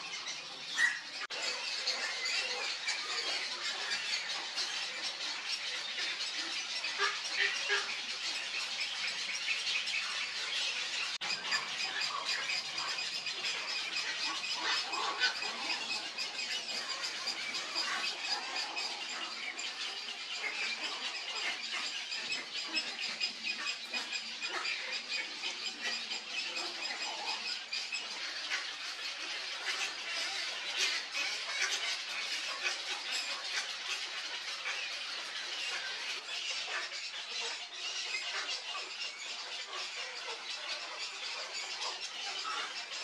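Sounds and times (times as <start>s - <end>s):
birds squawking and chattering: 0.0s - 43.0s.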